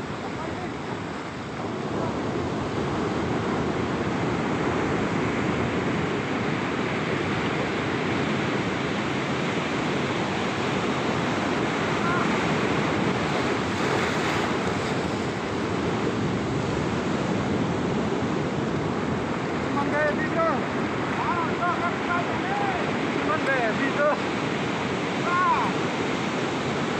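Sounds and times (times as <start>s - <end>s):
ocean surf breaking on rocks: 0.0s - 26.9s.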